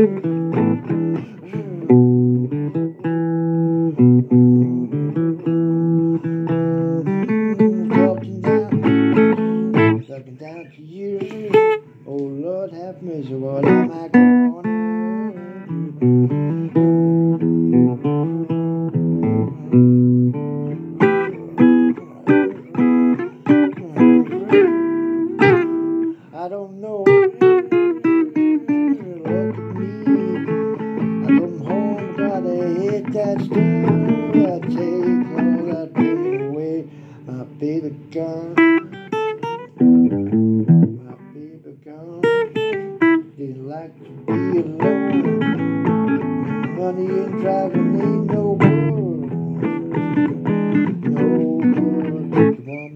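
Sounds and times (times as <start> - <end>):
blues guitar playing: 0.0 - 52.9.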